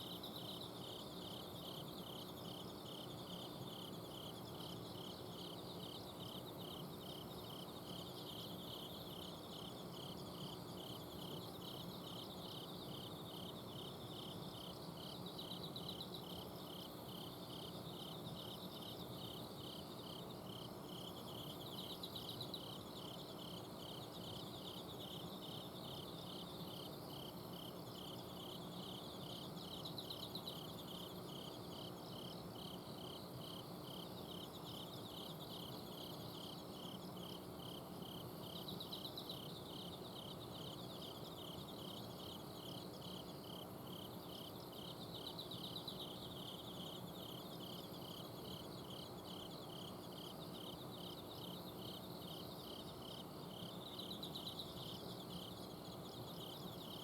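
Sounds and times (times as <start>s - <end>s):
cricket chirping: 0.0s - 57.0s
insect trills: 0.0s - 57.0s.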